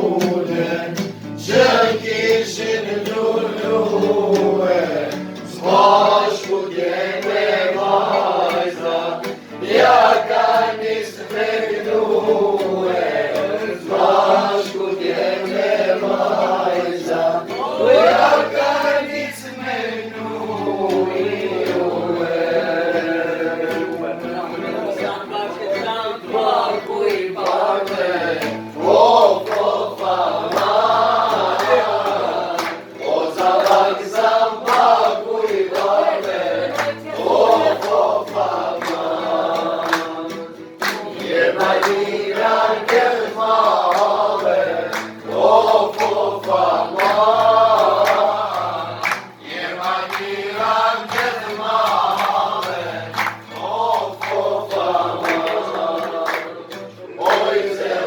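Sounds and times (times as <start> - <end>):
men singing together: 0.0 - 58.0.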